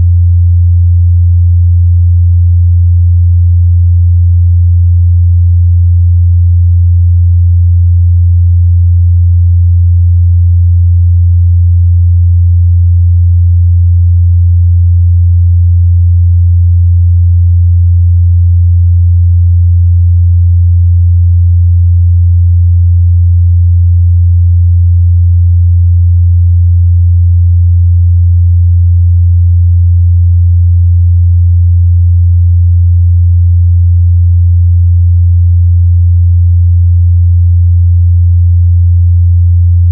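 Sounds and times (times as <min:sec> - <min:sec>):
low sine test tone: 0:00.0 - 0:39.9.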